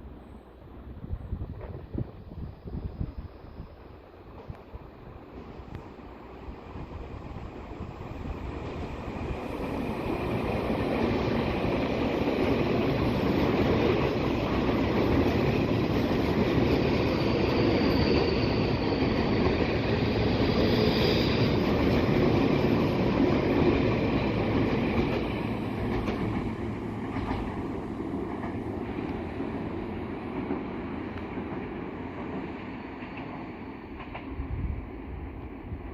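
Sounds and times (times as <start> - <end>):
train rumbling past slowly: 0.0 - 35.9.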